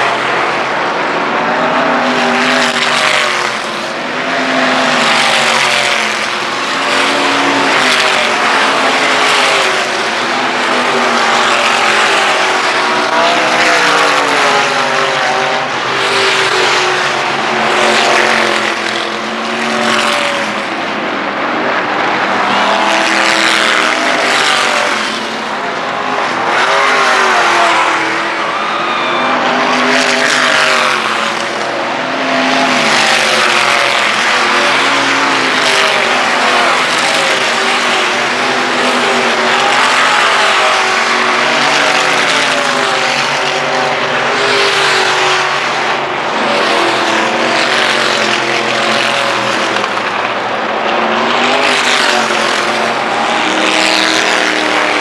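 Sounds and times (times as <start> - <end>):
race cars passing: 0.0 - 55.0.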